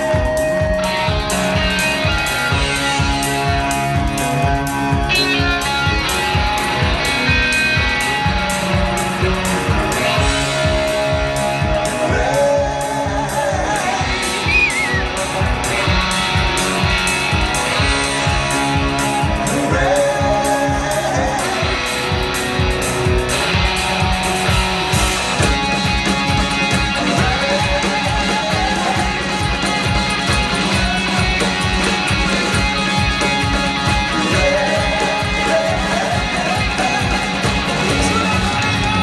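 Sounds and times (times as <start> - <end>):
drum beat: 0.0 - 39.0
electric guitars: 0.0 - 39.0.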